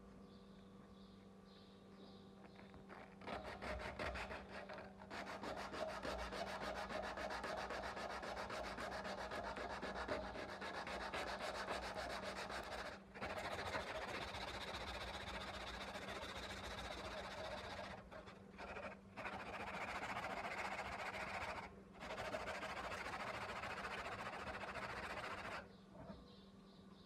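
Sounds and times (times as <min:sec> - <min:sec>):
sandpaper rubbing steel blade: 0:03.3 - 0:25.6.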